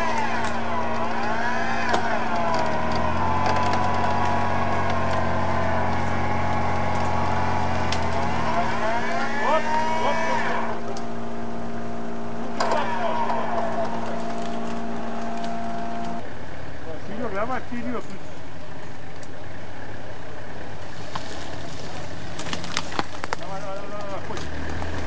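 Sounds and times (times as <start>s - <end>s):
truck engine revving: 0.0s - 18.2s, 19.5s - 25.0s.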